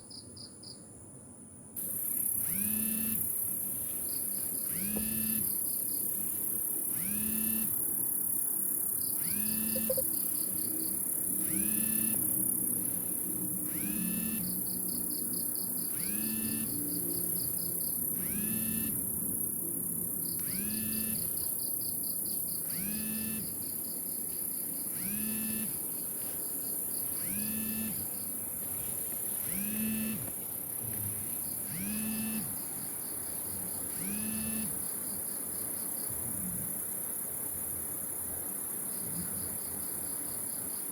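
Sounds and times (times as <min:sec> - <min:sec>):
cricket trilling: 0:01.8 - 0:40.9
insect chorus hiss: 0:01.8 - 0:40.9.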